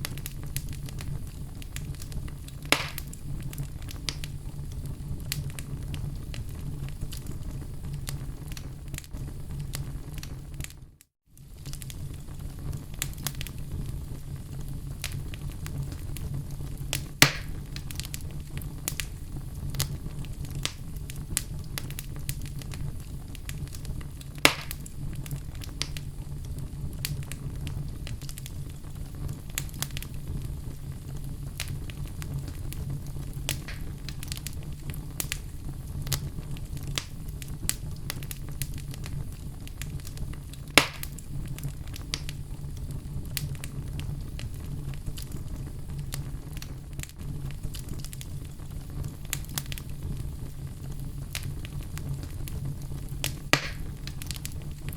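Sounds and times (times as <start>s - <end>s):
fire rumbling: 0.0s - 54.9s
loud fire pops: 0.0s - 54.9s
wood crackling: 0.0s - 54.9s.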